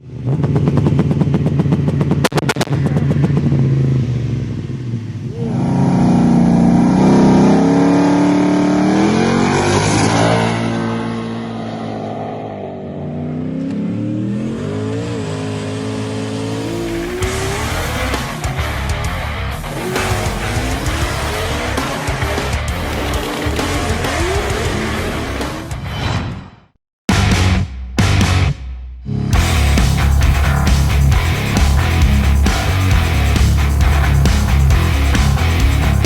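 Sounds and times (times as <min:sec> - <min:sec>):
truck engine revving with crackles: 0:00.0 - 0:25.8, 0:29.3 - 0:36.0.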